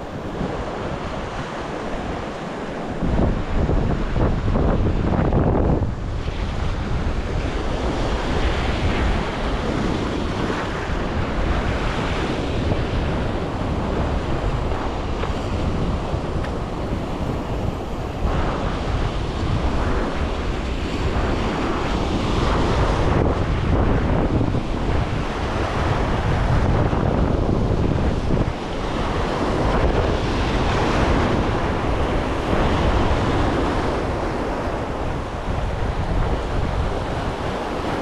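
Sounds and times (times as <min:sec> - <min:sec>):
waves washing on shore: 0:00.0 - 0:38.0
wind buffeting microphone: 0:00.0 - 0:38.0.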